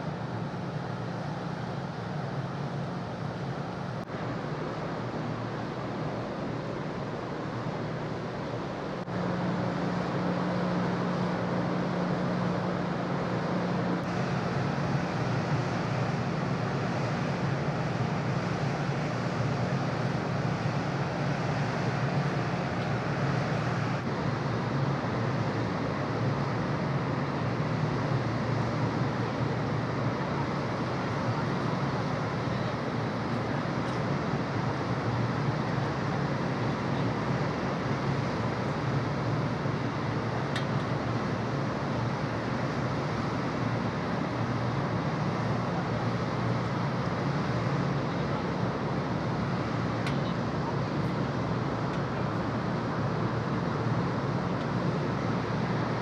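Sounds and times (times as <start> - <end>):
ferry engines droning: 0.0 - 56.0
wind and water hiss: 0.0 - 56.0.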